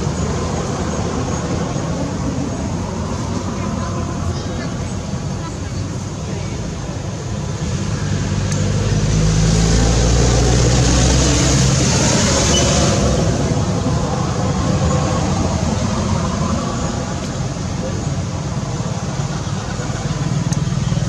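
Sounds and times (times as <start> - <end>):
vehicle passing engine rumble: 0.0 - 21.0.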